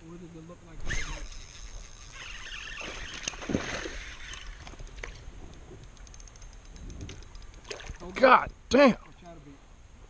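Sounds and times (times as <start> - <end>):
water swishing: 0.8 - 9.4.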